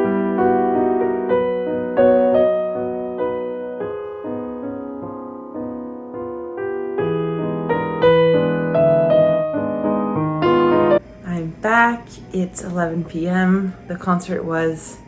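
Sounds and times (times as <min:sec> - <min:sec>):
slow piano piece: 0:00.0 - 0:14.2.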